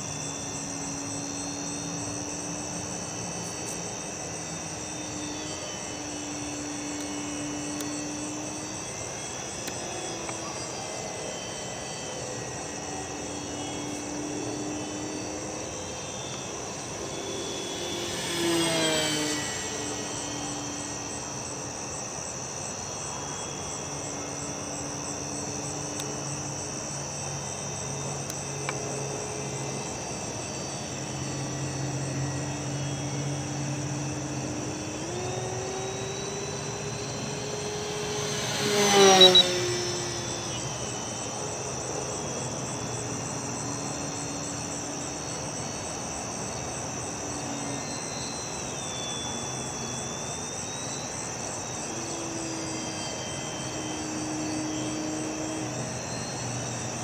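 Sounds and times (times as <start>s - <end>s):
crickets chirping: 0.0s - 57.0s
model plane motor whine: 0.0s - 57.0s.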